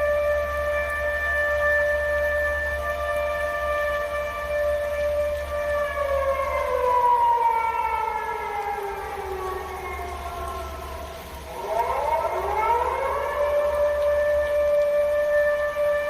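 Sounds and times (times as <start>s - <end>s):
tornado warning siren: 0.0s - 16.0s.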